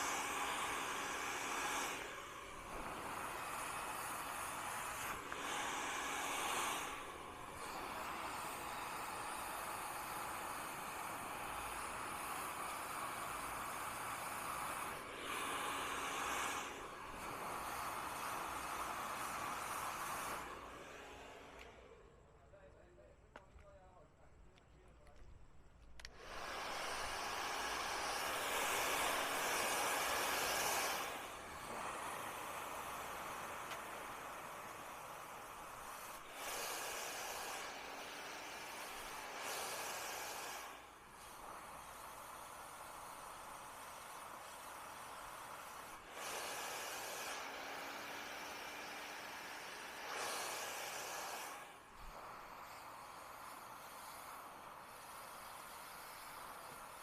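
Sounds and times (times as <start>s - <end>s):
blow dryer running: 0.0s - 22.2s, 26.0s - 57.0s.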